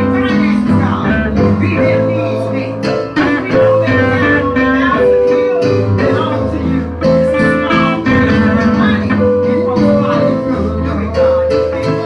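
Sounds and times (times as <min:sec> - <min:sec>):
guitar: 0:00.0 - 0:12.0
held bass notes: 0:00.0 - 0:12.0
upbeat band instrumental: 0:00.0 - 0:12.0.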